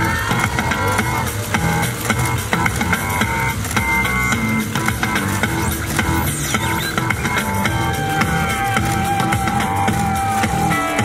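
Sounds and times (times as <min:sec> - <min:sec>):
drum-kit beat: 0:00.0 - 0:11.0
guitar: 0:00.0 - 0:11.0
upbeat pop dance music: 0:00.0 - 0:11.0.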